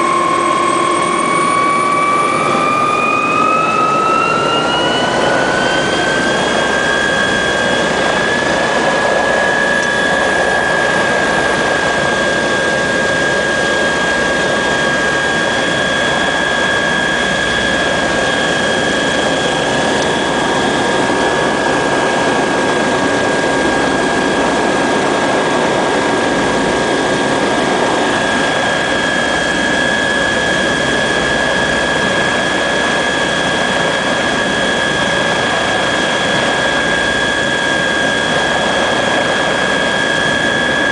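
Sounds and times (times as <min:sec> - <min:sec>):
constant rushing noise: 0:00.0 - 0:40.9
helicopter turbine whine: 0:00.0 - 0:40.9.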